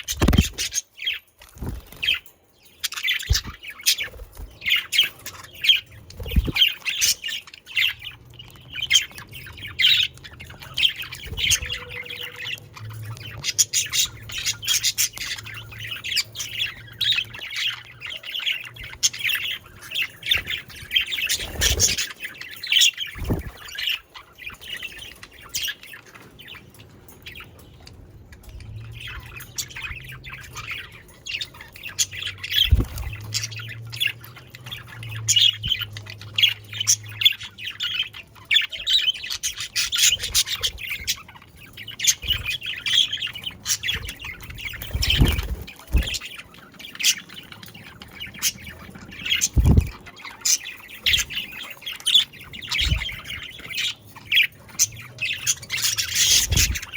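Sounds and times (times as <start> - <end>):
budgerigars chattering: 0.0 - 2.2, 2.8 - 56.9.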